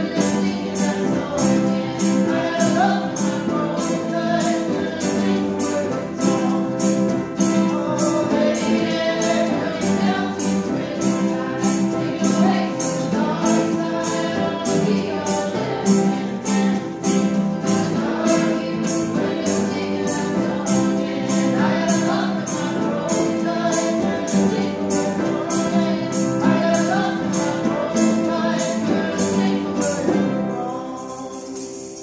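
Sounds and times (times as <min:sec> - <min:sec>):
group of voices singing: 0:00.0 - 0:32.0
strummed acoustic guitars and ukuleles: 0:00.0 - 0:32.0.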